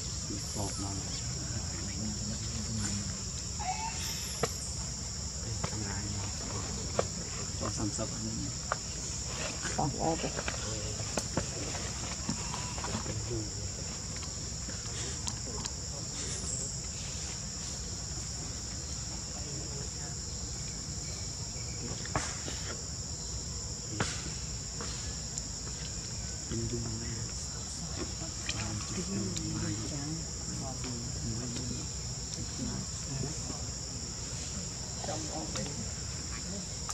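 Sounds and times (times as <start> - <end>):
high-pitched insect drone: 0.0 - 36.9.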